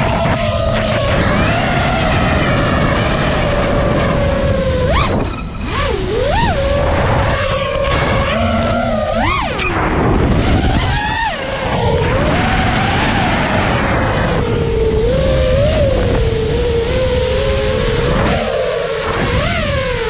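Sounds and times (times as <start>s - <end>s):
drone motors whining: 0.0s - 20.0s
wind rushing over microphone: 0.0s - 20.0s.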